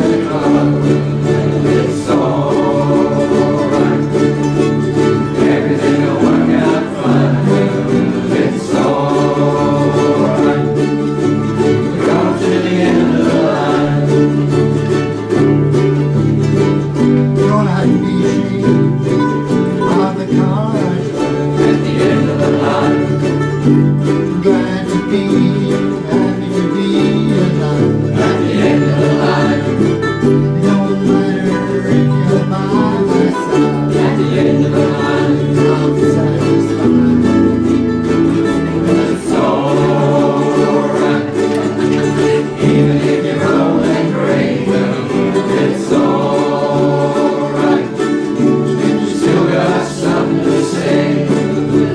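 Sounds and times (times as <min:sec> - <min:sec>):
people singing: 0:00.0 - 0:51.9
ukuleles strumming: 0:00.0 - 0:51.9.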